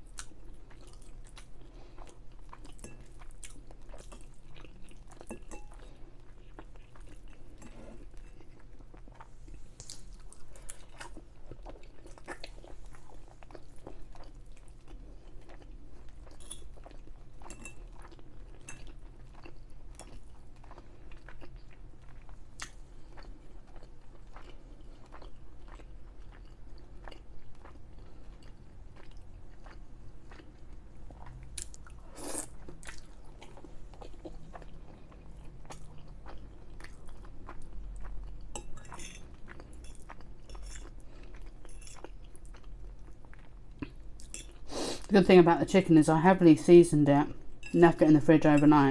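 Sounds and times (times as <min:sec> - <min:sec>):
chewing and mouth sounds: 0:00.0 - 0:44.7.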